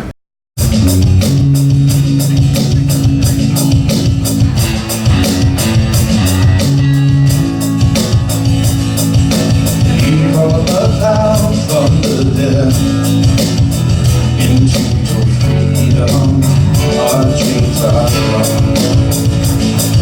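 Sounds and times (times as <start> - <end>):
drum kit with cymbals: 0.0 - 20.0
rock band playing: 0.0 - 20.0.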